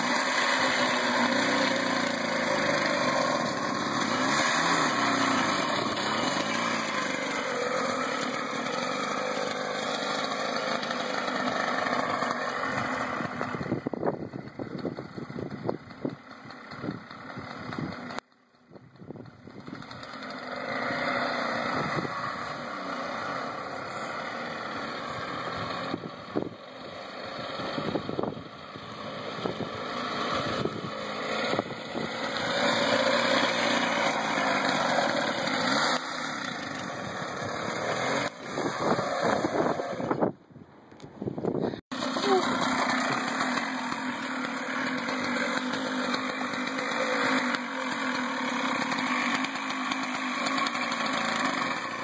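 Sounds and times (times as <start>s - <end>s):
two-stroke engine running: 0.0s - 52.0s.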